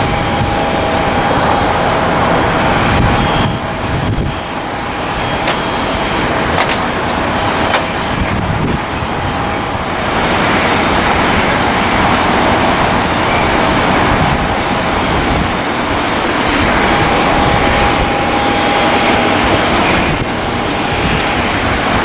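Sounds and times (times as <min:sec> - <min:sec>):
jet engines running: 0:00.0 - 0:22.0
wind buffeting microphone: 0:00.0 - 0:22.0.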